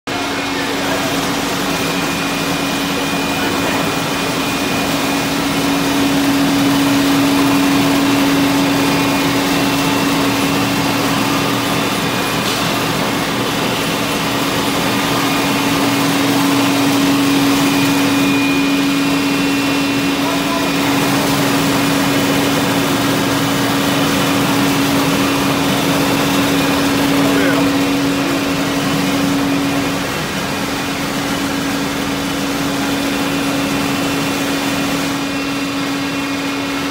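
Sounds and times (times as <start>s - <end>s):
loud machine drone: 0.1s - 36.9s.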